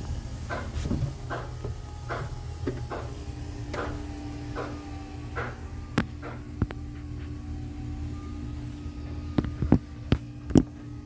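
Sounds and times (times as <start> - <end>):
low machinery hum: 0.0 - 11.0
steady mid-pitched tone: 0.0 - 11.0.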